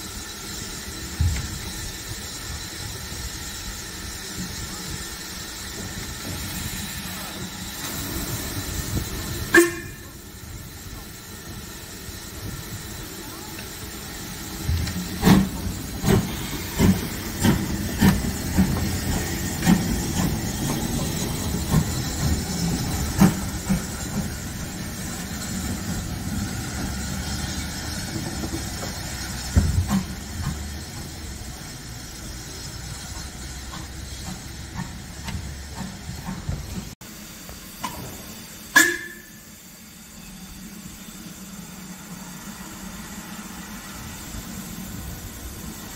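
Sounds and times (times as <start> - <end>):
hiss of escaping steam: 0.0 - 45.9
steam locomotive exhaust beats: 0.0 - 45.9.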